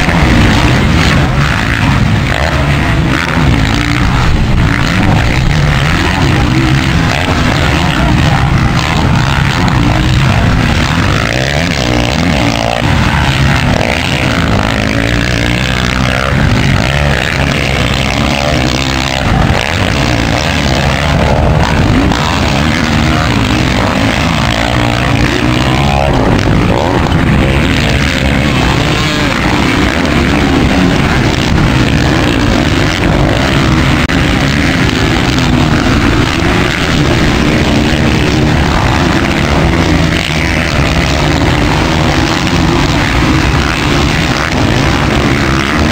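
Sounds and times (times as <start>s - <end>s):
dirt bike engines revving: 0.0s - 45.9s.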